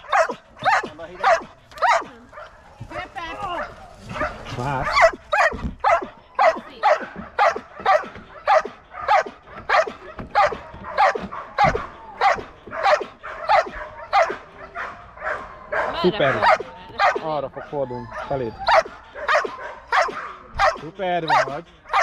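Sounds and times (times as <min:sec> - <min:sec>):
dog barking: 0:00.0 - 0:02.8, 0:03.4 - 0:22.0.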